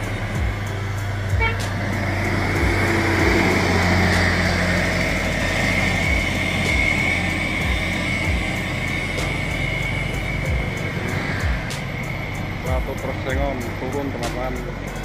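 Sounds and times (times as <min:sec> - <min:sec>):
bus diesel engine passing: 0:00.0 - 0:15.0.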